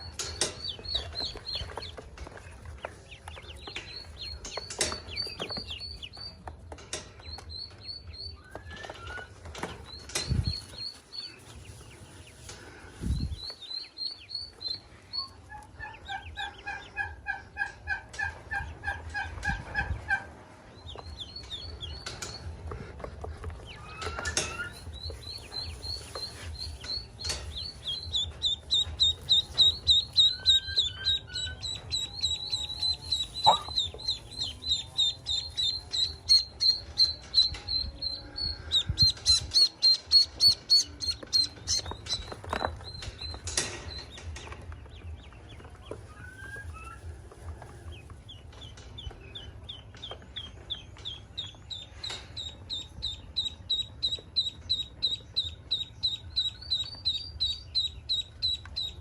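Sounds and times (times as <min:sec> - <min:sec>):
ducklings peeping: 0:00.0 - 0:59.0.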